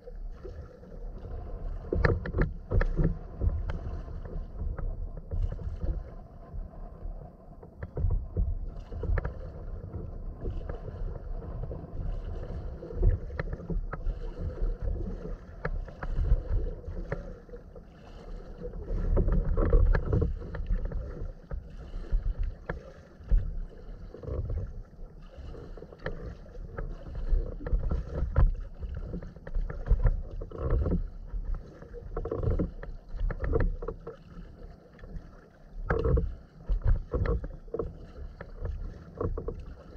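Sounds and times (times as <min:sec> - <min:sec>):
paddle splashing: 0:00.0 - 0:39.9
water lapping against hull: 0:00.0 - 0:39.9.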